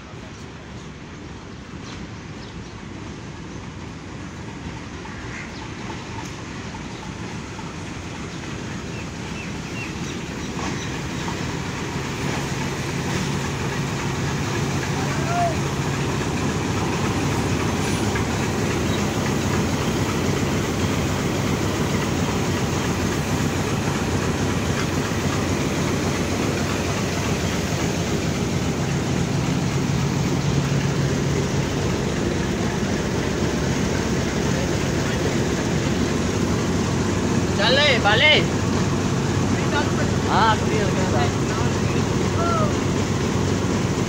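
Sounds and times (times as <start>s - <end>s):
diesel locomotive engine running: 0.0s - 44.0s.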